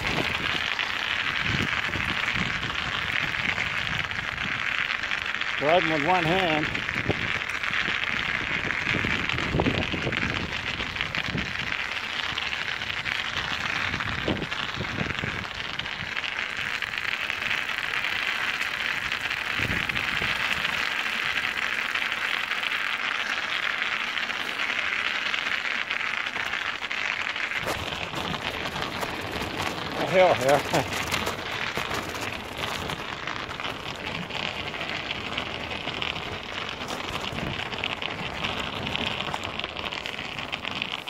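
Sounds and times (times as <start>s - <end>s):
low bumps from trail: 0.0s - 41.0s
studded bicycle tyres on ice: 0.0s - 41.0s.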